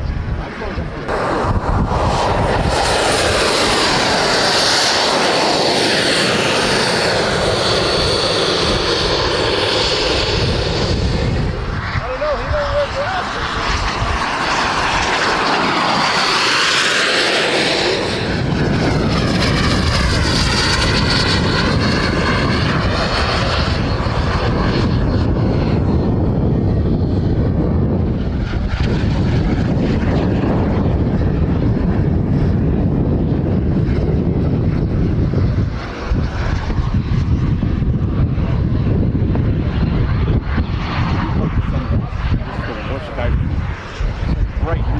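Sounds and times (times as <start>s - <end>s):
model jet turbine whine: 0.0s - 44.9s.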